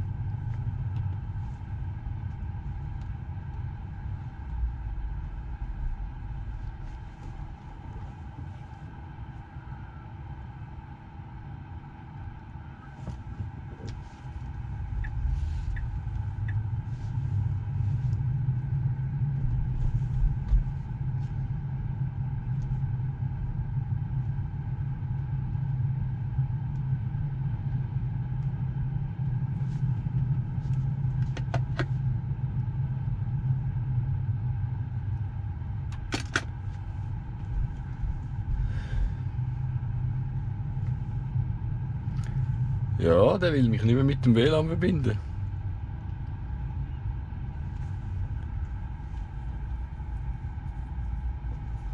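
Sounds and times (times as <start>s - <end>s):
car cabin low rumble: 0.0s - 51.9s
faint steady hum: 0.0s - 51.9s.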